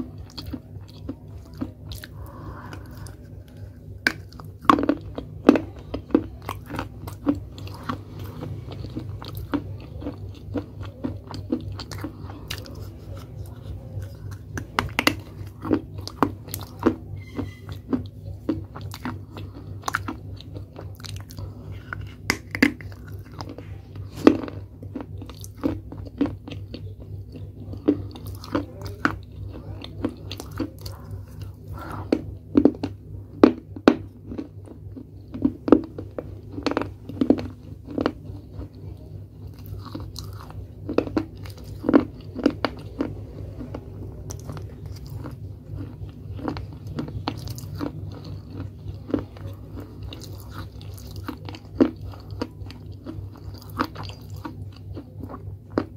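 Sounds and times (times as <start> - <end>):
chewing crunchy clay: 0.0 - 55.9
steady low hum: 0.0 - 55.9.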